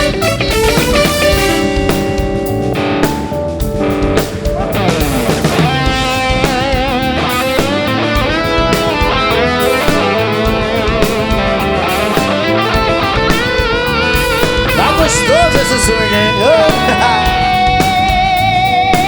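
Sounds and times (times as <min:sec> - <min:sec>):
guitar lead line with vibrato: 0:00.0 - 0:19.0
live band playing: 0:00.0 - 0:19.0.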